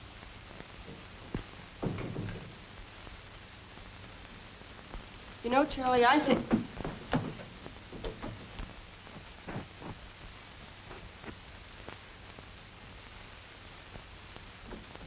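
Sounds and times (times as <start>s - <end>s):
film soundtrack hiss: 0.0s - 15.0s.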